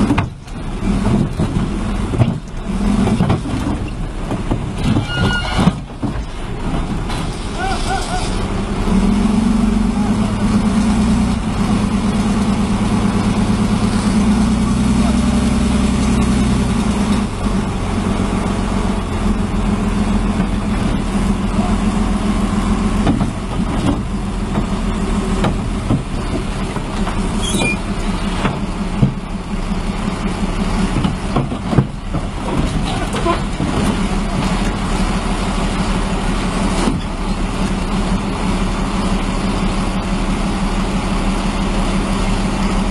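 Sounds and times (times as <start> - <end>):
heavy machine engine running: 0.0 - 42.9.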